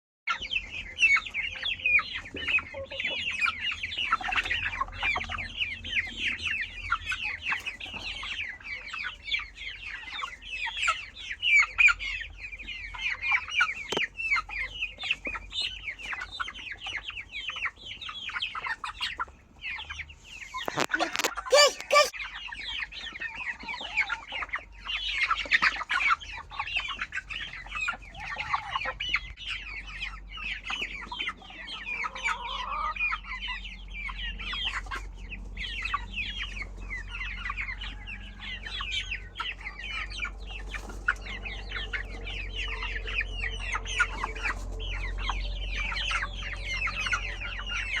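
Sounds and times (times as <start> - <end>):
chickens clucking: 0.3 - 48.0.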